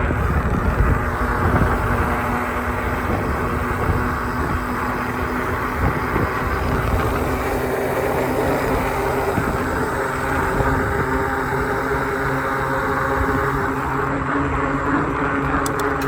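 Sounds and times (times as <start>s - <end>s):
city street traffic: 0.0s - 16.0s
vehicle engine hum: 0.0s - 16.0s.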